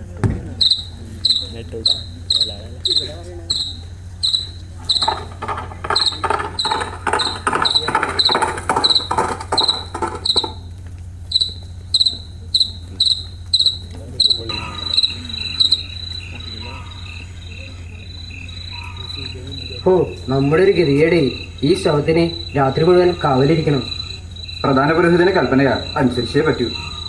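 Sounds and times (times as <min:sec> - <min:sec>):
cricket chirping: 0:00.0 - 0:27.0
low pulsing insect call: 0:00.0 - 0:27.0.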